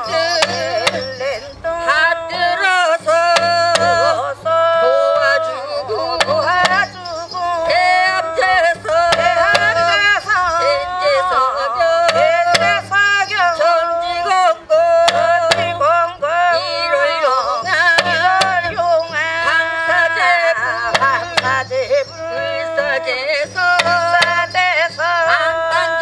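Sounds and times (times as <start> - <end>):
wavering sliding melody: 0.0 - 14.1, 16.6 - 26.0
barrel drum strokes: 0.0 - 14.2, 15.0 - 26.0
hand cymbals: 0.0 - 26.0.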